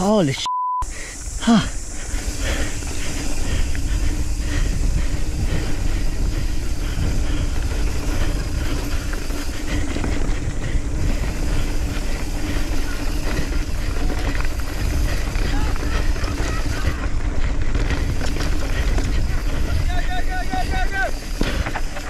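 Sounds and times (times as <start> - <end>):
bike rattling and clattering: 1.2 - 22.0
wind on microphone: 1.2 - 22.0
tyre noise: 1.3 - 22.0.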